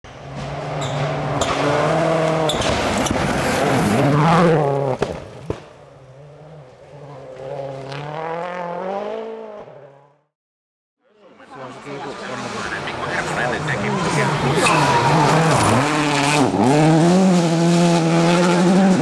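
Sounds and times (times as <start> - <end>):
rally car engine high revs: 0.3 - 5.1, 6.0 - 10.2, 12.2 - 19.0.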